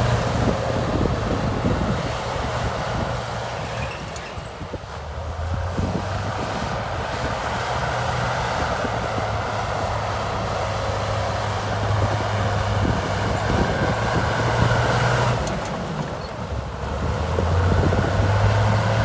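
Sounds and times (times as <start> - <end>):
heavy machine diesel engine: 0.0 - 19.0.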